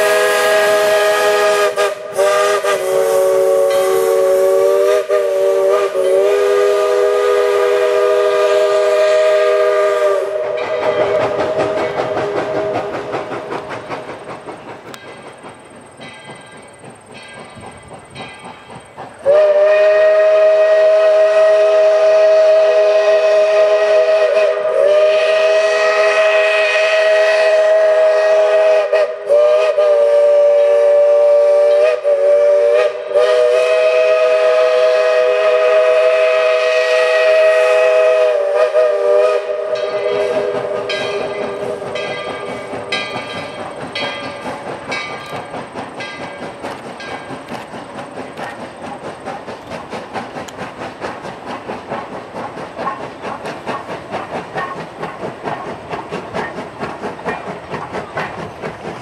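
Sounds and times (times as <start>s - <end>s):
steam locomotive chime whistle: 0.0s - 13.6s, 14.9s - 49.2s
train cars rattling and clacking: 0.0s - 59.0s.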